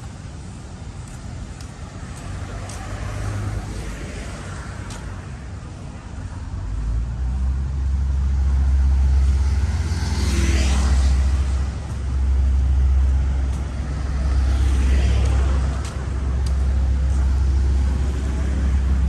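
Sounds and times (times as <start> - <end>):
low traffic rumble: 0.0 - 19.0
vehicles passing by: 0.0 - 19.0.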